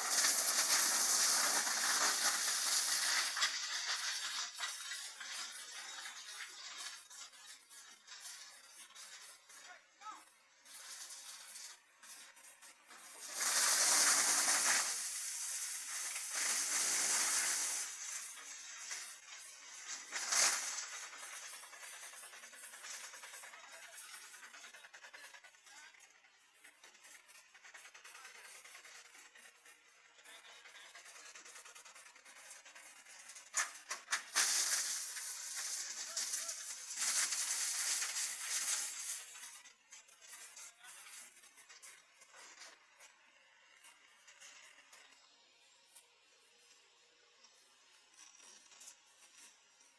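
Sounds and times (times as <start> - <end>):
wood chipper crackling: 0.0 - 49.9.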